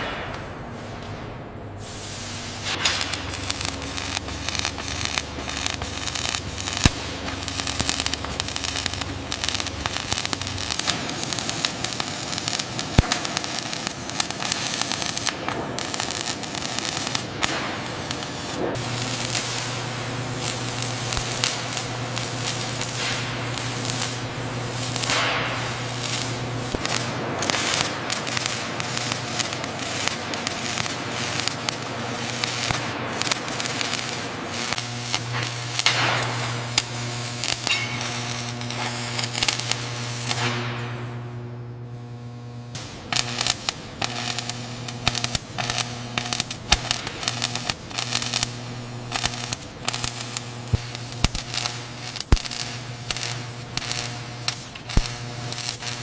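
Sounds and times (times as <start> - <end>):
low electrical hum: 0.0 - 56.0
arc welding crackling: 1.8 - 56.0.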